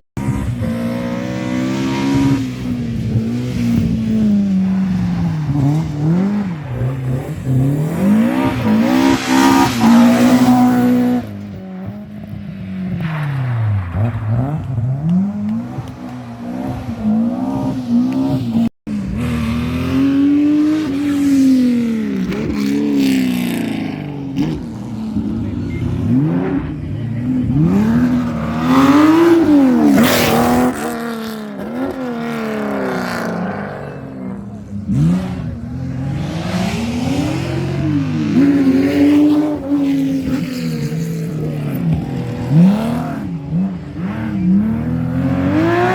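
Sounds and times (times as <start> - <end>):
rally car engines revving: 0.2 - 45.9.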